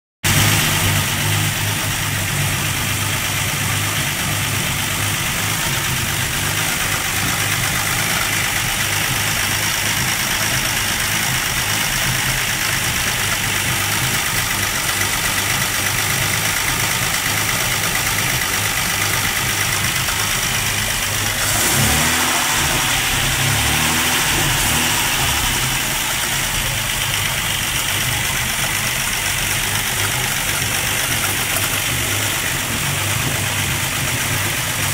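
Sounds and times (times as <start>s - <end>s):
engine running on test stand: 0.2s - 34.9s.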